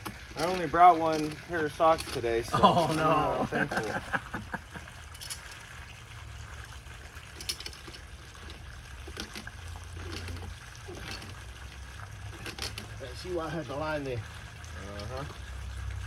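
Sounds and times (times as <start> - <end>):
water trickling from pipe: 0.0 - 16.0.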